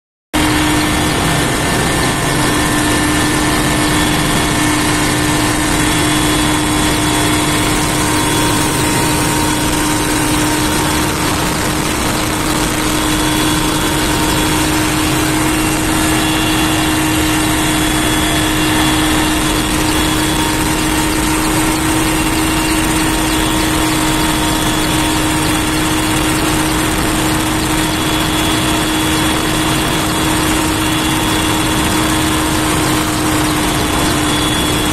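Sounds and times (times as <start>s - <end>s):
helicopter engine and rotor drone: 0.4s - 34.9s.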